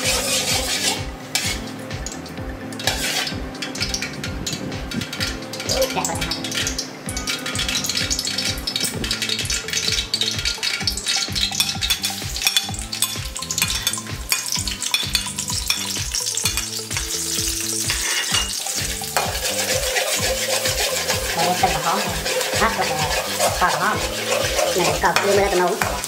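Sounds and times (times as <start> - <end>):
metal spatula scraping wok: 0.0 - 1.8, 2.7 - 4.2, 5.0 - 26.0
garlic sizzling in hot oil: 0.0 - 26.0.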